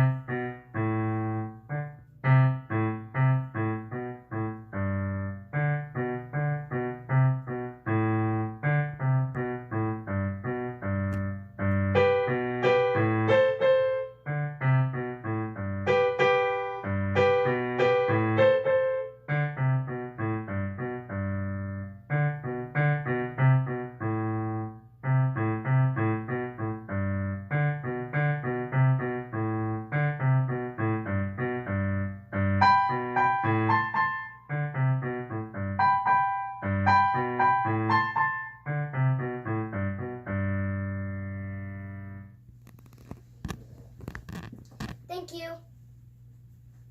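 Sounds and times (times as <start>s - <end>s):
piano melody: 0.0s - 42.4s.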